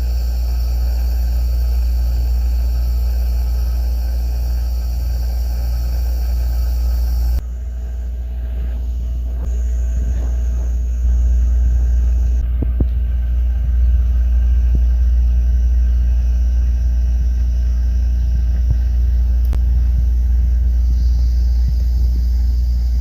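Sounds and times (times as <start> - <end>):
appliances humming: 0.0 - 23.0.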